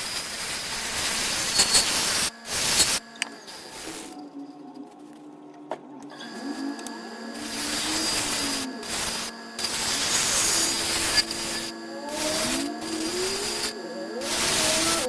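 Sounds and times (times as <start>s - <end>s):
power tool working wood: 0.0s - 4.2s, 6.1s - 15.0s.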